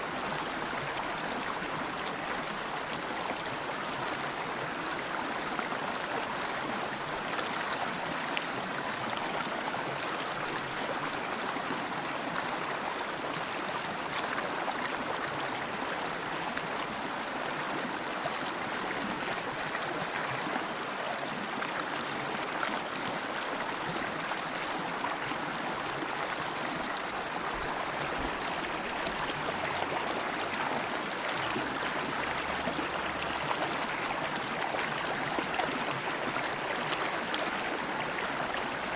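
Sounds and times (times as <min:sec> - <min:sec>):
river water flowing over stones: 0:00.1 - 0:38.9.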